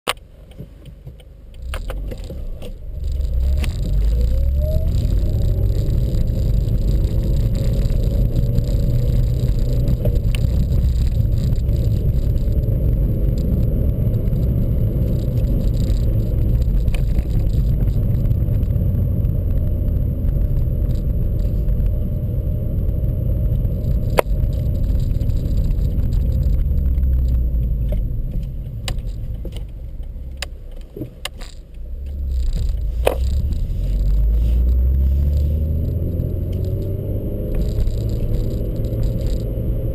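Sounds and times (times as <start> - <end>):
car engine while driving: 0.1 - 39.9.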